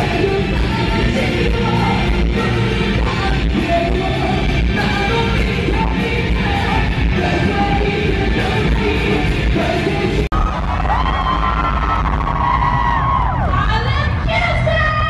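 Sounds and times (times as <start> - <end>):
live rock band playing: 0.0 - 12.8.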